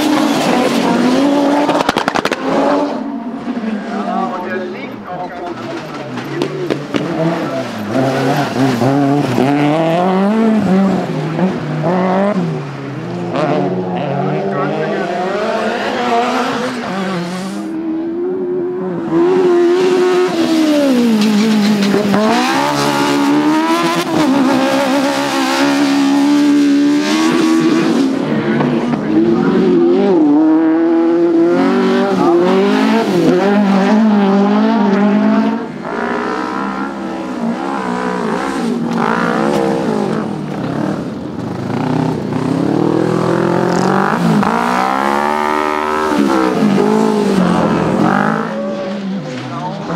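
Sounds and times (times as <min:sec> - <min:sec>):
kart engines revving: 0:00.0 - 0:49.9.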